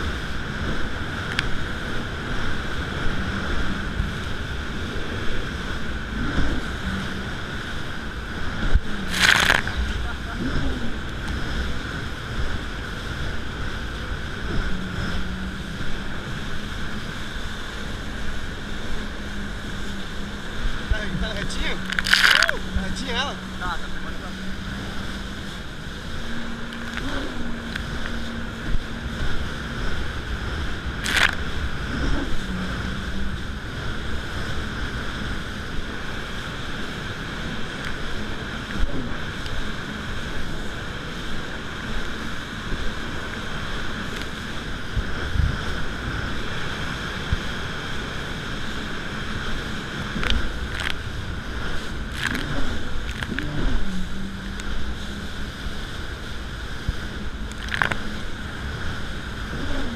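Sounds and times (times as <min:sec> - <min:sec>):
jet ski engine drone: 0:00.0 - 0:59.9
rushing water and spray: 0:00.0 - 0:59.9
wind on microphone: 0:00.0 - 0:59.9.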